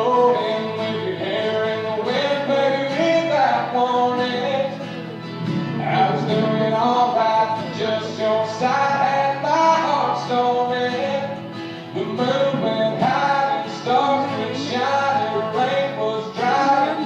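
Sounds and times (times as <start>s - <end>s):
guitar accompaniment: 0.0s - 17.0s
man singing: 0.0s - 17.0s.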